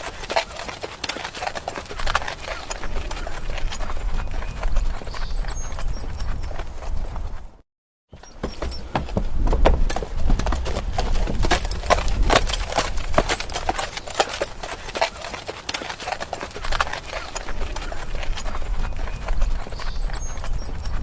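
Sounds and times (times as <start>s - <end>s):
horse hooves clip-clopping: 0.0s - 7.6s, 8.2s - 21.0s.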